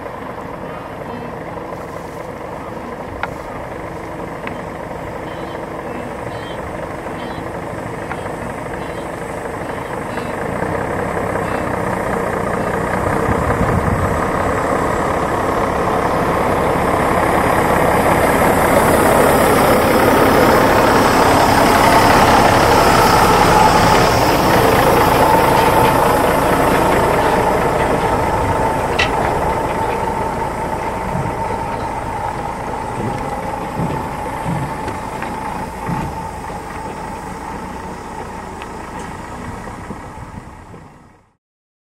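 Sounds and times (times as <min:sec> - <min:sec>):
diesel truck driving past: 0:00.0 - 0:41.4.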